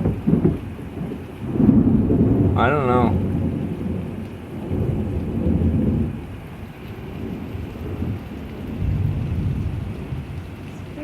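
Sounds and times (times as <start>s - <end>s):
steady rain: 0.0s - 11.0s
thunder rumbling: 0.0s - 11.0s.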